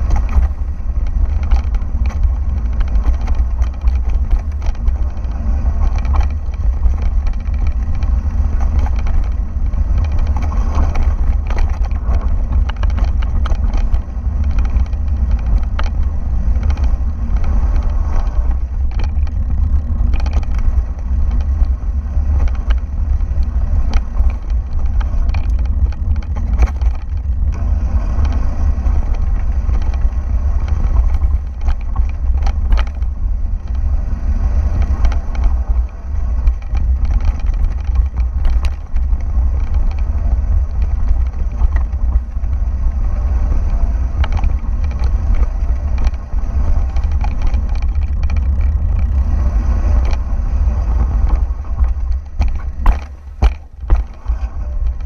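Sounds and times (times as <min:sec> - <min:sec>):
tyres rattling over gravel: 0:00.0 - 0:43.0, 0:43.7 - 0:55.0
wind buffeting microphone: 0:00.0 - 0:55.0.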